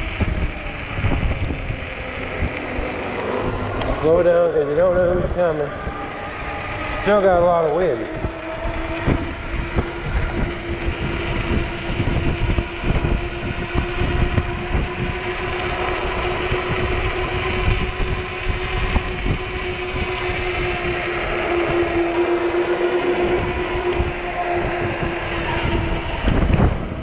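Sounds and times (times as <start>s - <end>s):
electric bike motor whining: 0.0s - 27.0s
wind buffeting microphone: 0.0s - 27.0s.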